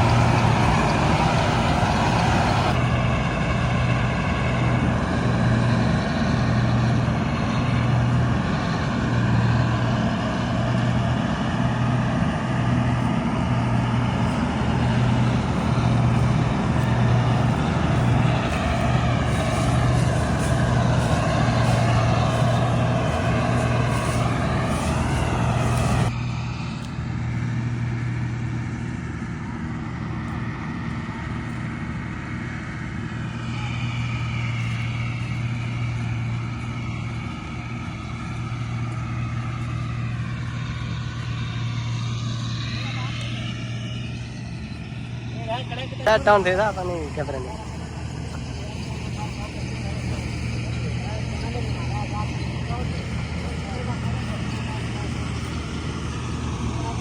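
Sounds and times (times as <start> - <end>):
diesel engine deep pulsing hum: 0.0 - 57.0
machinery whine: 0.0 - 57.0.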